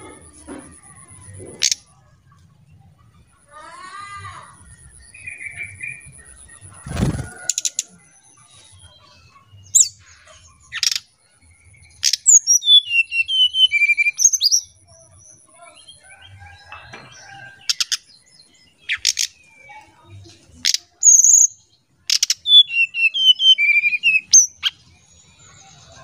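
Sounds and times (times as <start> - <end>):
bird singing: 0.0 - 26.0.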